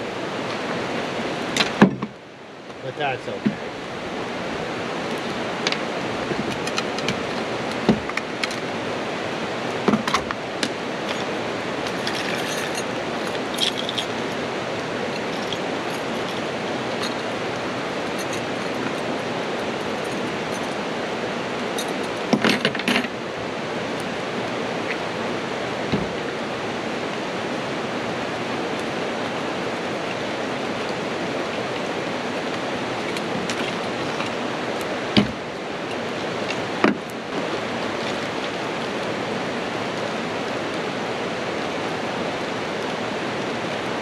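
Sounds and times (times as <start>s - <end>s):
steady rushing hiss: 0.0s - 44.0s.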